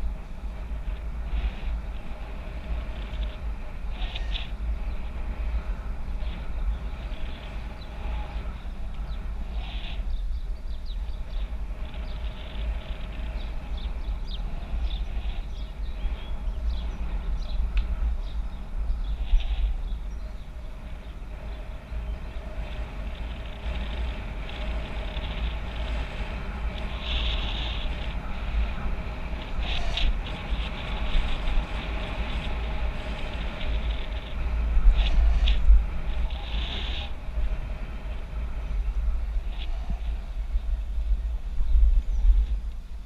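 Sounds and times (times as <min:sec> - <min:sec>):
bicycle rolling noise: 0:00.0 - 0:43.0
wind buffeting microphone: 0:00.0 - 0:43.0.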